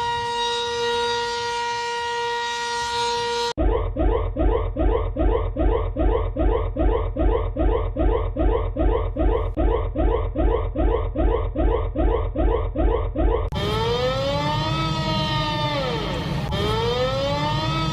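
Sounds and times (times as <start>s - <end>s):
siren whooping: 0.0s - 17.9s.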